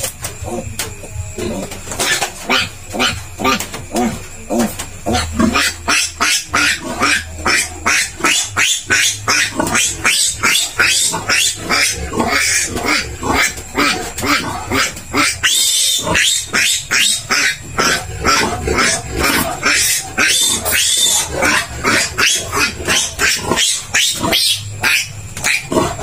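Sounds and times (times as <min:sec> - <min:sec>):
piglet squealing: 0:05.1 - 0:26.0.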